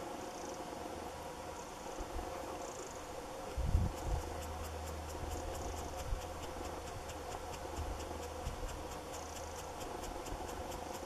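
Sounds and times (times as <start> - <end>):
insect chirping in high ticks: 0.1 - 0.7, 1.5 - 11.0.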